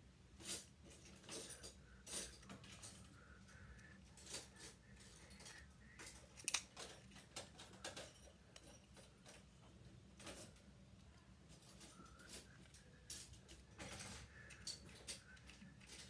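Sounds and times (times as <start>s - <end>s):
plastic parts clicking and tapping: 0.9s - 16.0s.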